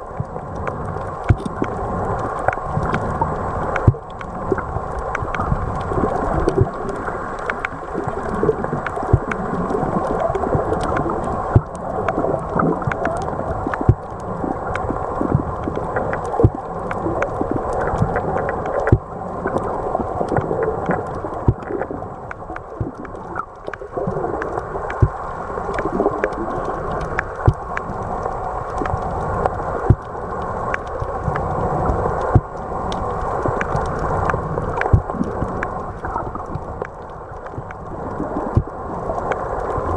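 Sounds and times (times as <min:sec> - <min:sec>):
muffled underwater rushing: 0:00.0 - 0:39.9
sharp underwater clicks: 0:00.2 - 0:39.9.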